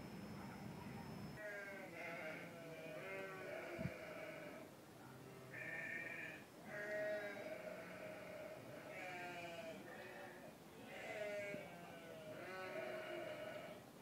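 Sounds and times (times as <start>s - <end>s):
livestock bleating: 1.4s - 13.8s.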